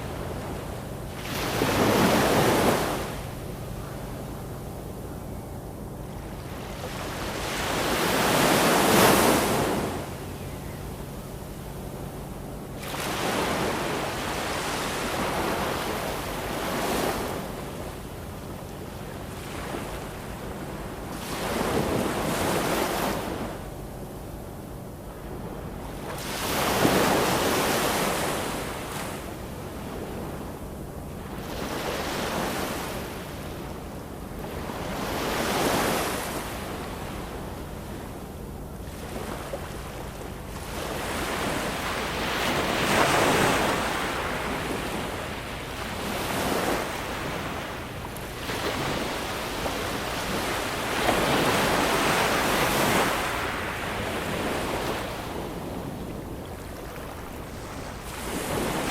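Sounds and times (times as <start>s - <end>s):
ocean waves breaking: 0.0s - 5.4s, 6.0s - 23.7s, 25.1s - 30.6s, 31.2s - 58.9s.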